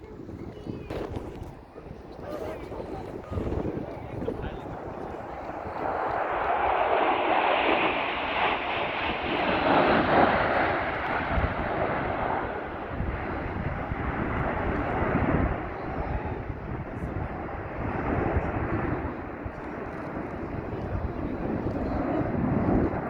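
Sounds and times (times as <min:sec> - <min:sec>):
airplane flying past: 0:03.4 - 0:23.0.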